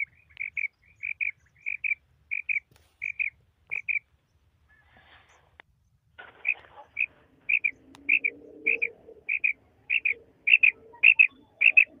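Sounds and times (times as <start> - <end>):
quail calling: 0.0 - 4.1, 6.2 - 12.0.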